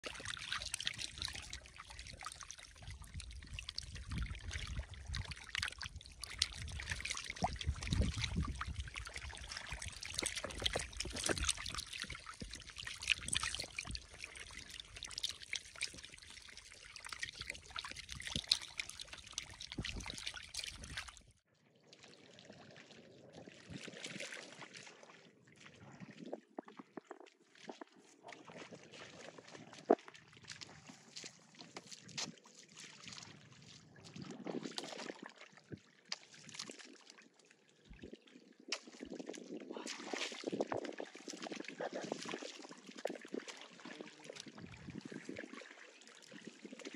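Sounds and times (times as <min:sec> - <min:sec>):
fish splashing in shallow water: 0:00.0 - 0:46.9.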